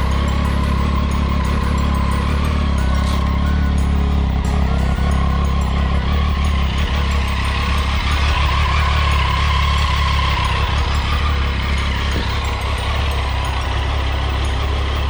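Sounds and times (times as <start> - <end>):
faint steady whine: 0.0 - 15.0
motorcycle engine: 0.0 - 15.0.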